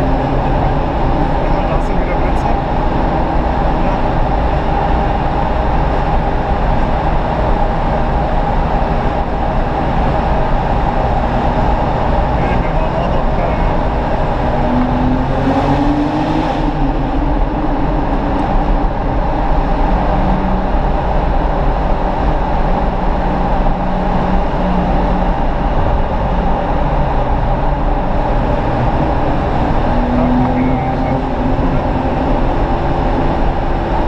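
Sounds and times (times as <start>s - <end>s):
car engine pulling: 0.0s - 34.0s
loud road noise: 0.0s - 34.0s.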